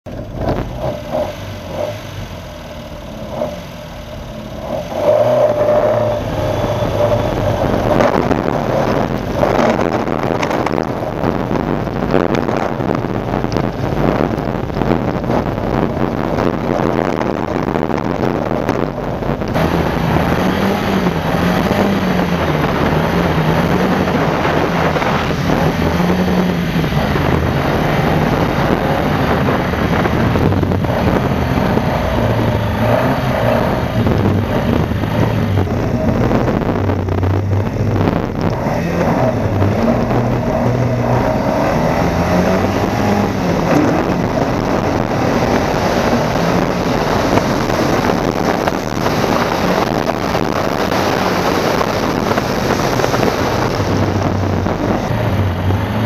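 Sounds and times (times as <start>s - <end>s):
rally car engine revving: 0.1s - 56.0s.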